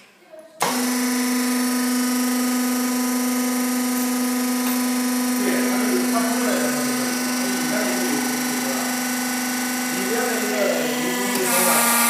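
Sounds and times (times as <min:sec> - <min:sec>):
hydraulic pump motor humming: 0:00.6 - 0:12.0.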